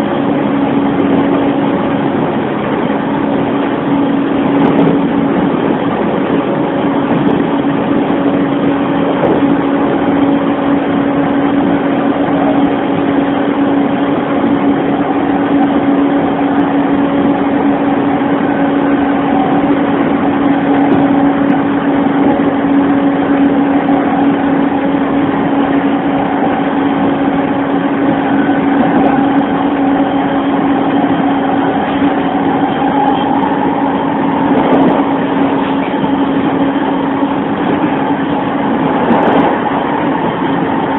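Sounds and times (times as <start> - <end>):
train motor hum: 0.0 - 40.9
wheels rumbling on rails: 0.0 - 40.9.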